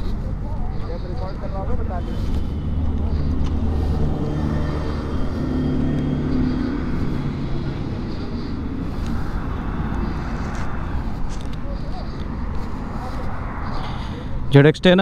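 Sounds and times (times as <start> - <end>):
passing traffic rumble: 0.0 - 15.0
vehicle engine humming: 0.0 - 15.0.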